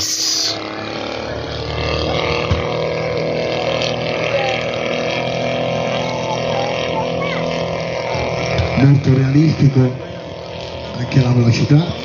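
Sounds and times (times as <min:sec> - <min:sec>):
model plane engine droning: 0:00.0 - 0:12.0.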